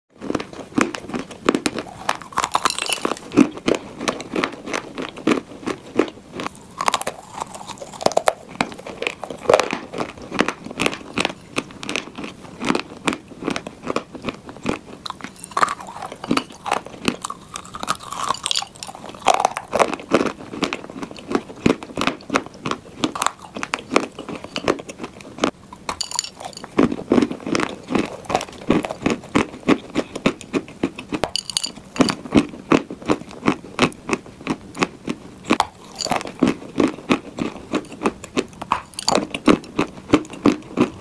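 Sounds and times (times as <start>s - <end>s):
dry clay crunching when chewed: 0.2s - 41.0s.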